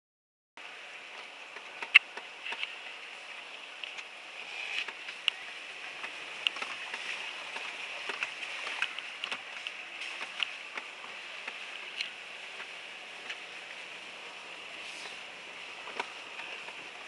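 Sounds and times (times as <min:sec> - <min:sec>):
steady hiss: 0:00.6 - 0:17.0.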